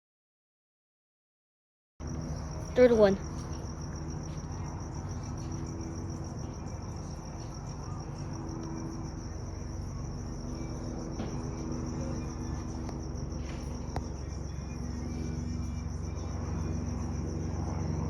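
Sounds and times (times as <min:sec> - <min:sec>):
crickets chirping: 0:02.0 - 0:18.0.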